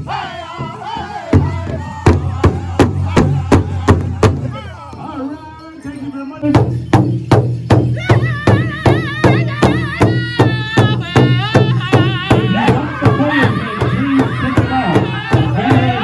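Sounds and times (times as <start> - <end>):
big drum beating steadily: 0.0 - 4.6, 6.5 - 16.0
lead voice singing high: 0.0 - 5.3, 8.0 - 16.0
high-pitched singers: 0.0 - 6.6, 7.9 - 16.0.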